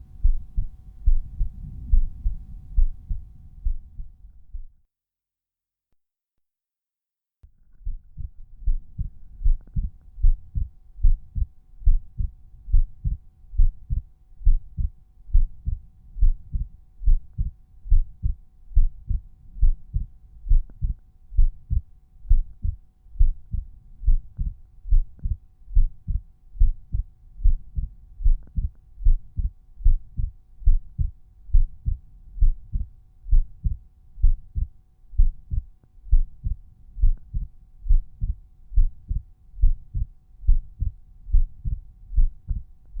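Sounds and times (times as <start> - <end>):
faint steady hum: 0.0 - 4.8, 7.4 - 43.0
heartbeat lub-dub thumps: 0.0 - 4.8, 7.7 - 43.0.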